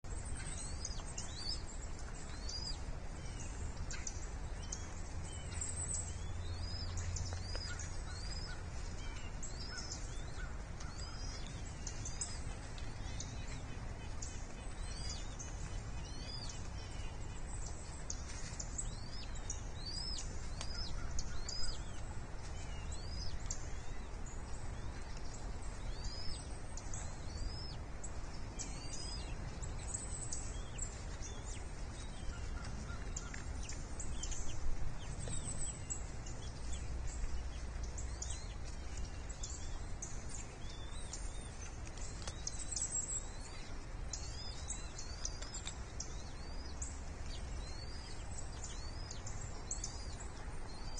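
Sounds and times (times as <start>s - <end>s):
bird chirps: 0.0s - 50.9s
steady low rumble: 0.0s - 50.9s.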